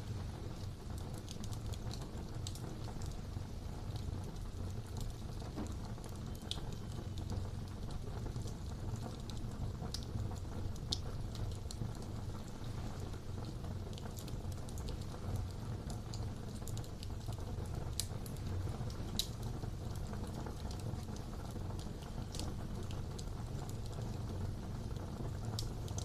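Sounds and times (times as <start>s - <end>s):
fire crackling and popping: 0.0s - 26.0s
fire flames rumbling: 0.0s - 26.0s.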